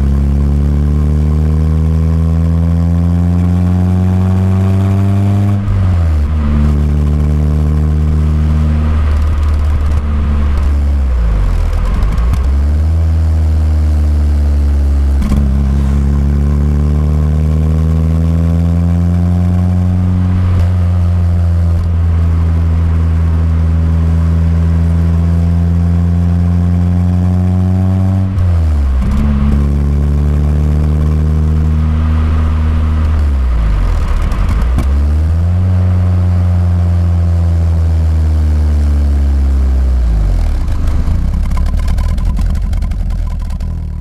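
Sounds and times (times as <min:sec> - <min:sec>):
car engine pulling uphill: 0:00.0 - 0:44.0.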